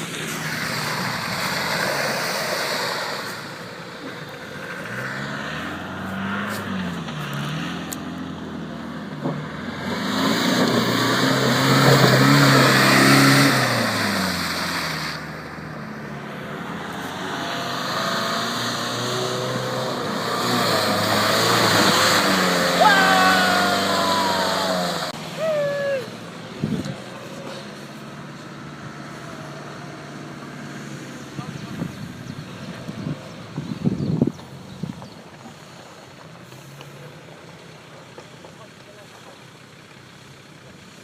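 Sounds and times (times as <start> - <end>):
engine revving: 0.0 - 33.3.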